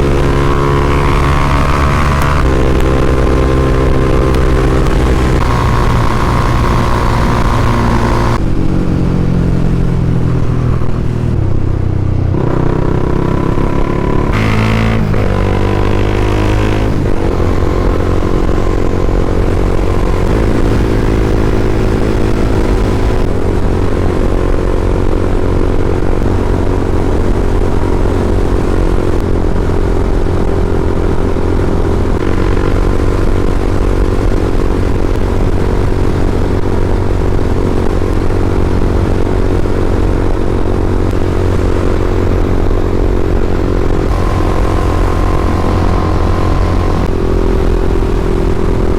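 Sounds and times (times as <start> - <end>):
motorcycle engine shifting gears: 0.0 - 48.9.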